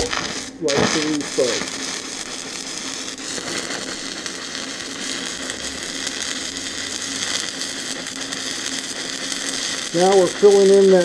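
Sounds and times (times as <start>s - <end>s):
welding arc crackling sizzle: 0.0s - 11.0s.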